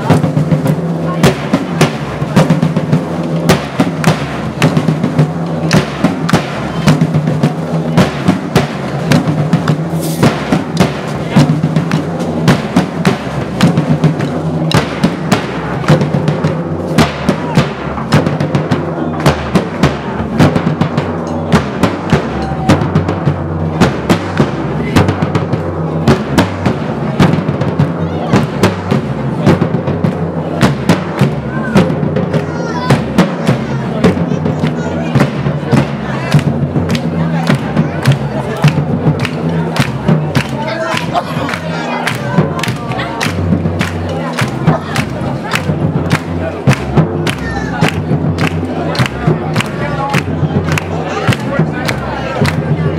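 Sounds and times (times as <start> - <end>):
deep booming low drums: 0.0 - 52.9
drums beating steady rhythm: 0.0 - 52.9.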